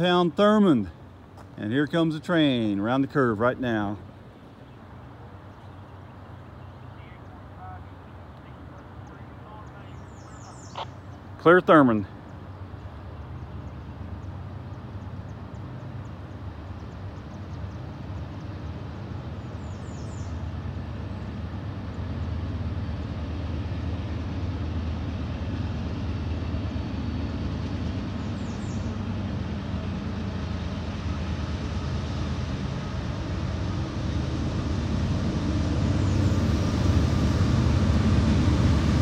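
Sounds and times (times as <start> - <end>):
diesel locomotive engine rumble: 0.0 - 39.0.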